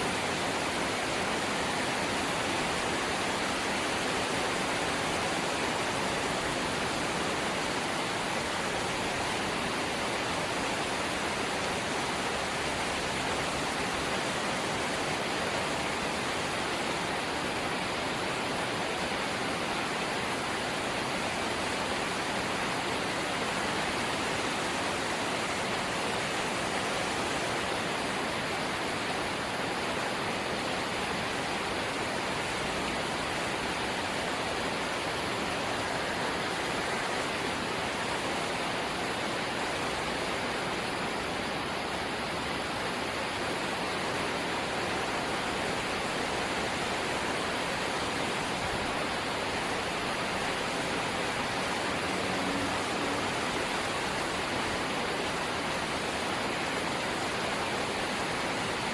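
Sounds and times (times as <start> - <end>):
light rain hissing: 0.0 - 58.9.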